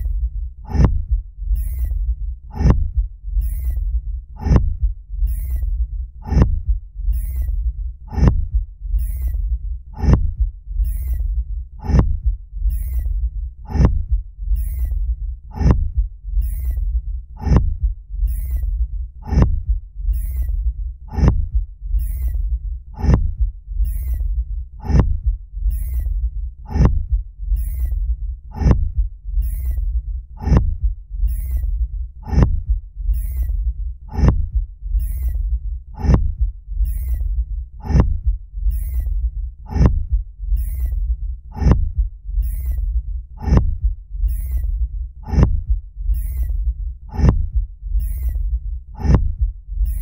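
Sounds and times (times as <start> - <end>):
deep rumble: 0.0 - 50.0
heavy rhythmic thuds: 0.0 - 50.0.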